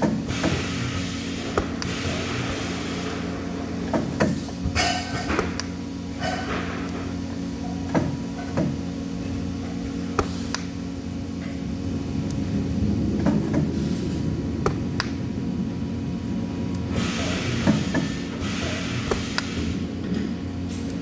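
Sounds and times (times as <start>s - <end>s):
workshop machinery hum: 0.0s - 21.0s.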